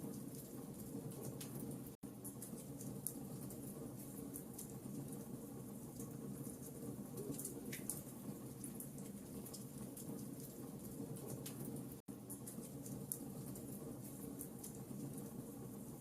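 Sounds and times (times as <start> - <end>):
burning logs crackling: 0.0 - 16.0.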